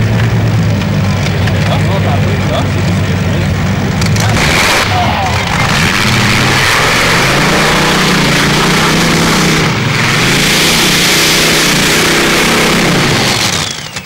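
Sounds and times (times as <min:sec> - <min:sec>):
tractor engine roaring under load: 0:00.0 - 0:14.0.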